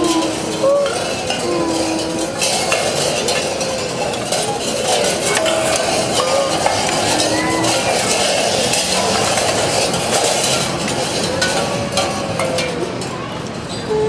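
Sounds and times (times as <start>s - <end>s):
tin cans clinking and rattling: 0.0s - 13.9s.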